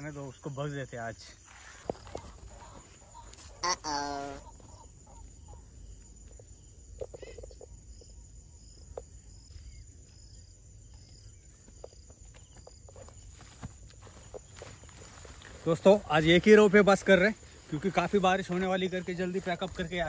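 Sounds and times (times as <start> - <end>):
high insect chirps: 0.0 - 20.0.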